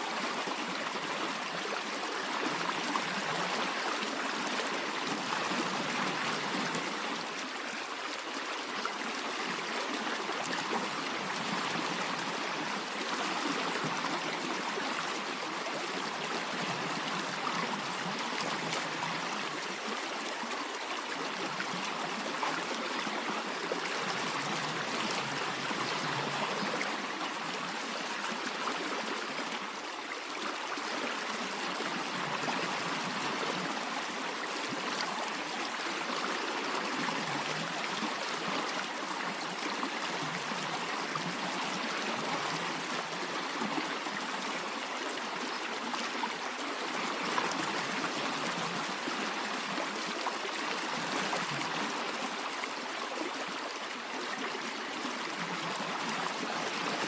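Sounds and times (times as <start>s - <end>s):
stream of water flowing: 0.0s - 57.0s.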